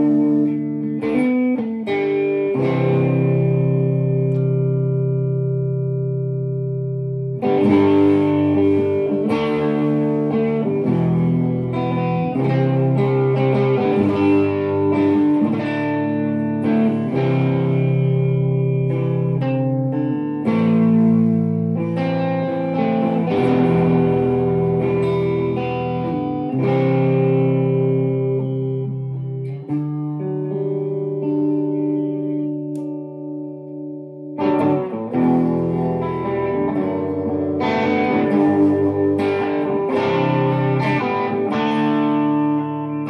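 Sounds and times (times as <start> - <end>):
electric guitar chords strummed: 0.0 - 43.0.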